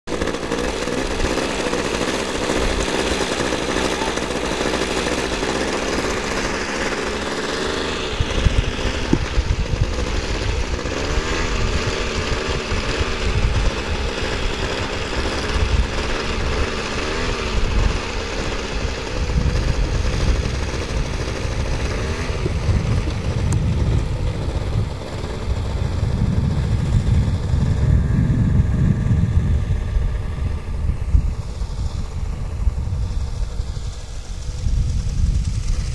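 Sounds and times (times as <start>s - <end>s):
machine engine running: 0.0s - 35.9s
wind buffeting microphone: 0.1s - 35.9s.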